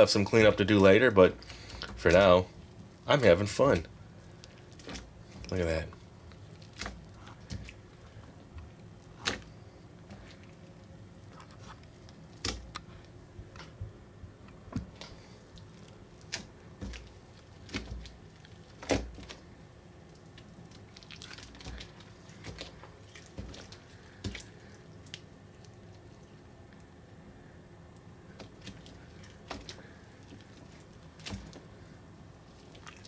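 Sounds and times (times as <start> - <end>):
slime squelching and dripping: 0.4 - 13.7, 14.6 - 27.0, 27.8 - 33.0.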